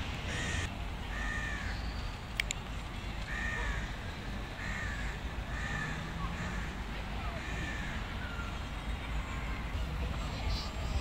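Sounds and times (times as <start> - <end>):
birds calling: 0.0 - 2.6, 3.2 - 11.0.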